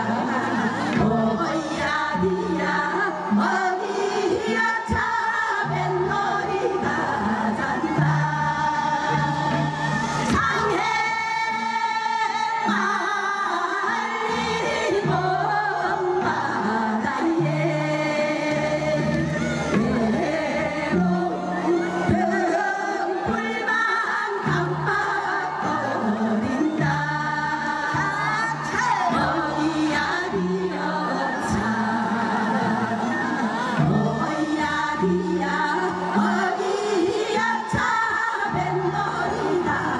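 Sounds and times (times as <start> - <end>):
women's chorus singing folk song: 0.0 - 39.9.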